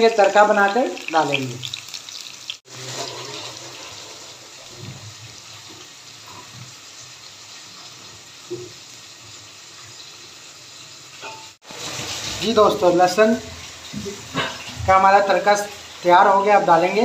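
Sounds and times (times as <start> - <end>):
spices sizzling in hot oil: 0.0 - 17.0.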